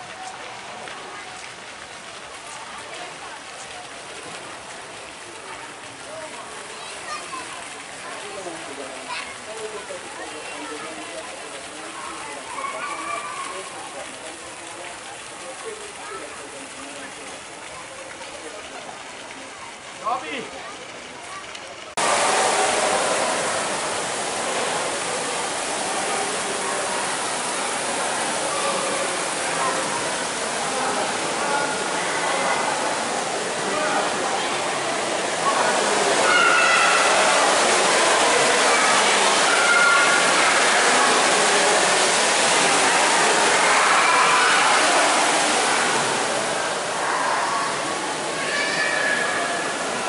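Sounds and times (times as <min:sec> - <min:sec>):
faint voices: 0:00.0 - 0:50.0
water splashing into pool: 0:00.0 - 0:50.0.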